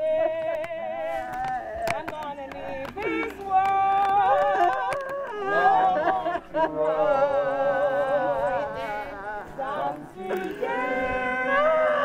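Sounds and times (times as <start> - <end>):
group singing gospel chorus: 0.0 - 12.0.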